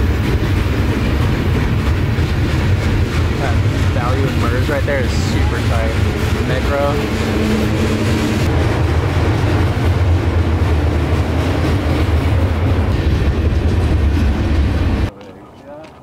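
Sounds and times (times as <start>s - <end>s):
freight train wheels on rails: 0.0s - 16.0s.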